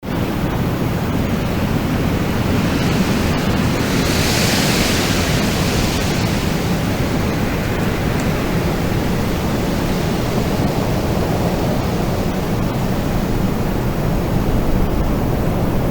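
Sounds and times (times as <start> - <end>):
wind rumbling: 0.0 - 15.9
wind gust hissing: 0.8 - 15.9.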